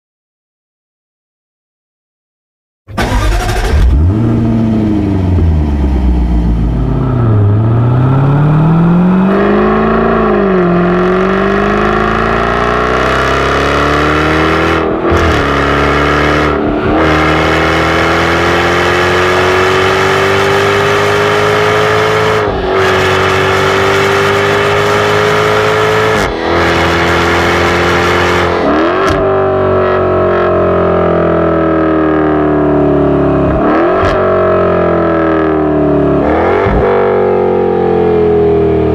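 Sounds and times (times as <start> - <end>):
car engine accelerating through gears: 2.9 - 38.9.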